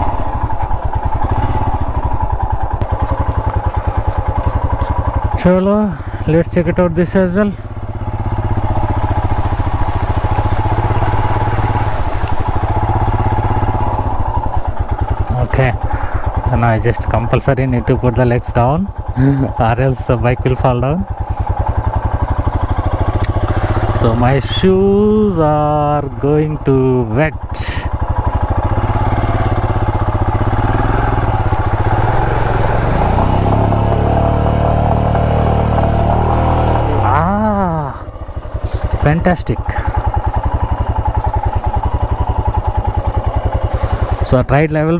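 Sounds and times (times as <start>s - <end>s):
motorcycle engine running at low speed: 0.0s - 44.9s.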